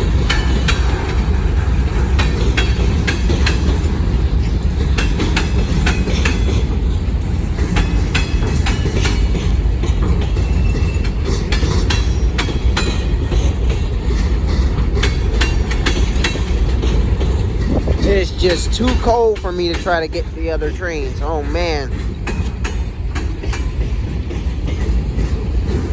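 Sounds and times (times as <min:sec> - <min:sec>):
freight train rumble: 0:00.0 - 0:25.9
wheels clacking over rail joints: 0:00.0 - 0:25.9.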